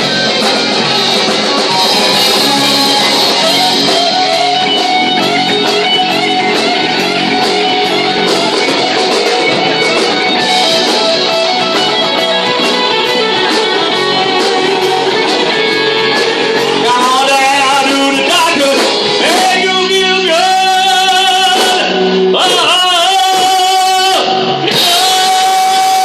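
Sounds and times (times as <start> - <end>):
drums steady beat: 0.0 - 26.0
electric guitar: 0.0 - 26.0.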